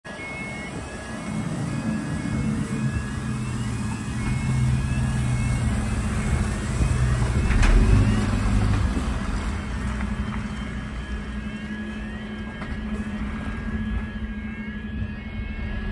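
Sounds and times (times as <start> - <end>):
faint two-tone siren: 0.0 - 15.9
fire engine diesel engine: 0.0 - 15.9
tyres on wet road: 0.1 - 15.9.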